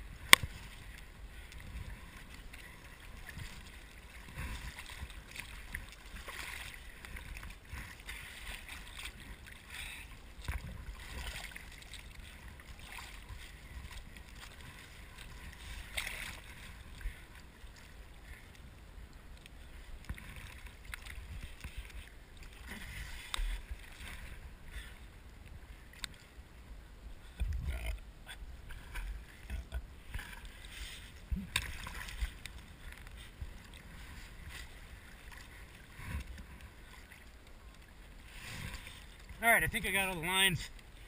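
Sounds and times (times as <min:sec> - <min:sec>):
sea water sloshing and splashing: 0:00.0 - 0:26.5, 0:27.2 - 0:41.0.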